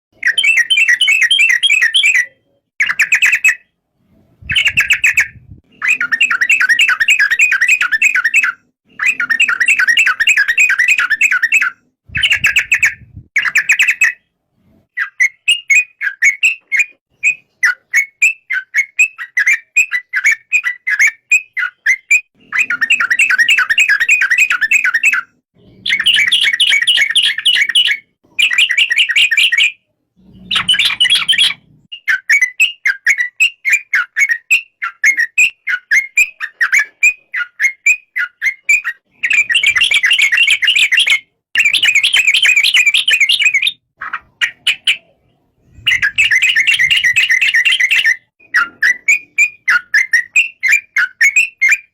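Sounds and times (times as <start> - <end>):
bird chattering song: 0.2 - 3.8, 4.4 - 14.3, 14.9 - 51.9.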